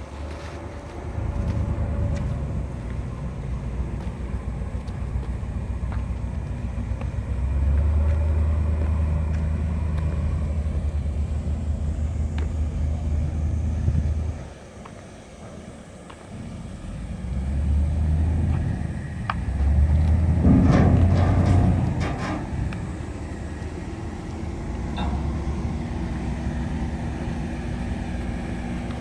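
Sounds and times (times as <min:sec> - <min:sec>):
ferry engine rumble: 0:00.0 - 0:29.0.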